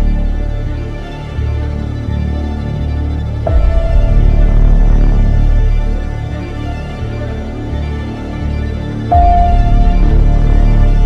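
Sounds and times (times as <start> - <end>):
dark low background music: 0.0 - 11.0.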